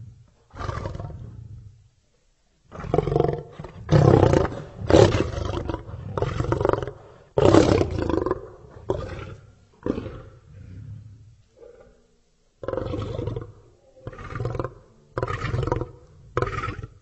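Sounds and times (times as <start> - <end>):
lion roaring: 0.0 - 1.8, 2.7 - 12.0, 12.6 - 17.0.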